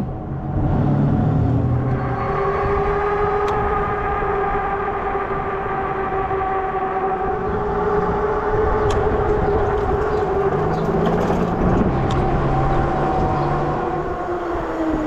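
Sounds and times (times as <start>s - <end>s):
low drone: 0.0s - 15.0s
wind noise: 0.0s - 15.0s
electric bike motor whine: 1.9s - 15.0s.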